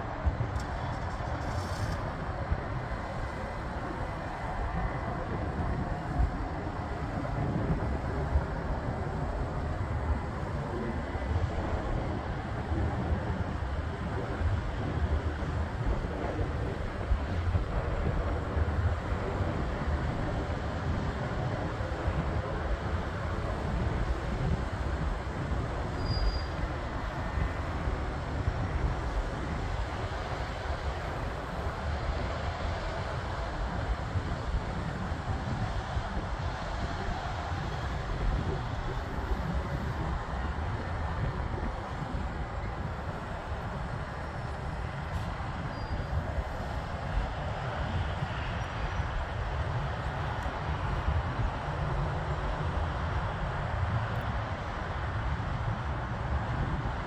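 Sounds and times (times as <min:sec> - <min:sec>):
distant jet rumble: 0:00.0 - 0:57.0
wind buffeting microphone: 0:00.0 - 0:57.0.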